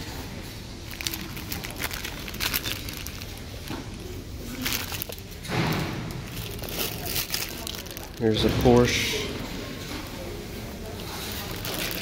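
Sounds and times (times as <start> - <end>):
plastic bags crinkling: 0.4 - 10.0, 10.8 - 12.0.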